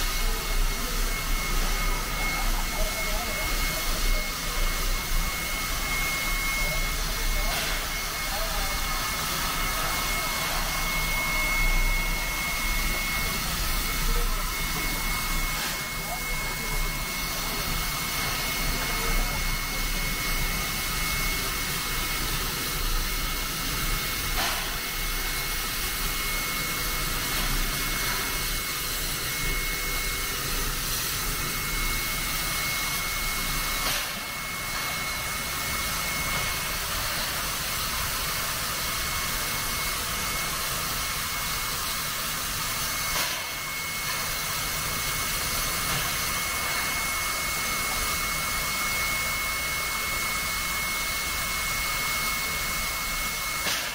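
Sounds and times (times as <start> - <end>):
steam hissing from locomotive: 0.0 - 53.9.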